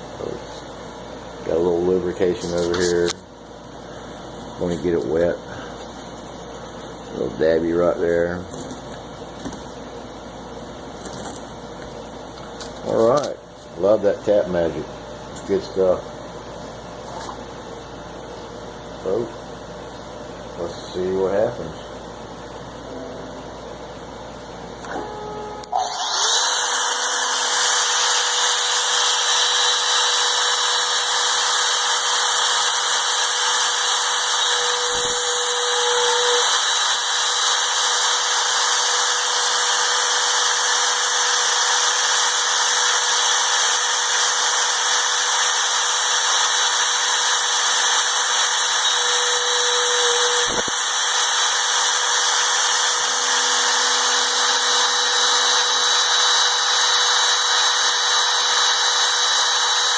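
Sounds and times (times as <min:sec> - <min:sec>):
mill spindle hiss and whine: 0:00.0 - 0:59.9.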